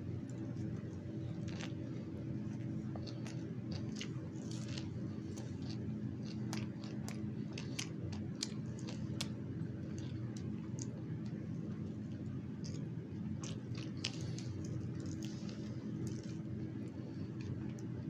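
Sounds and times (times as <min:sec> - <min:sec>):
person chewing sandwich: 0:00.0 - 0:18.0
steady low hum: 0:00.0 - 0:18.0.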